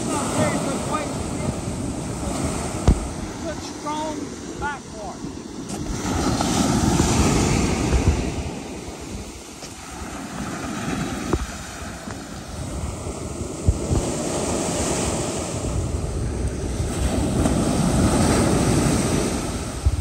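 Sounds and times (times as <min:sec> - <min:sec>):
ocean surf on sand: 0:00.0 - 0:20.0
wind buffeting microphone: 0:00.0 - 0:20.0.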